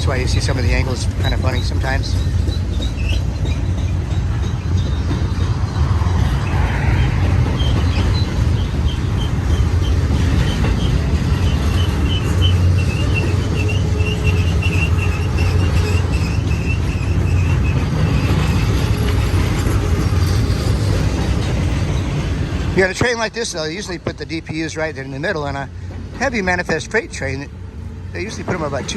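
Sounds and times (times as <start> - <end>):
freight train rumbling on rails: 0.0 - 28.9.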